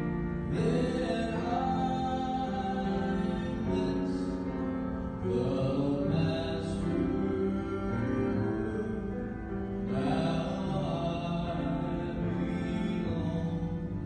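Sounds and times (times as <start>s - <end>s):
man singing gospel song: 0.0s - 14.0s
piano accompaniment: 0.0s - 14.0s.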